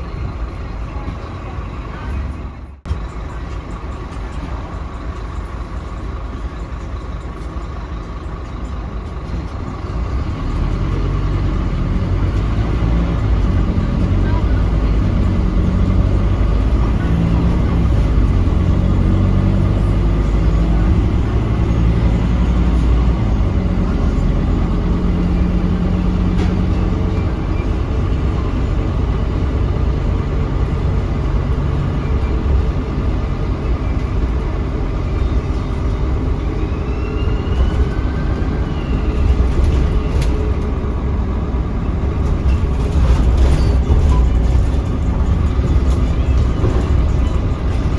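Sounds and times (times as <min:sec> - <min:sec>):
bus diesel engine droning: 0:00.0 - 0:47.9
road and drivetrain noise: 0:00.0 - 0:47.9.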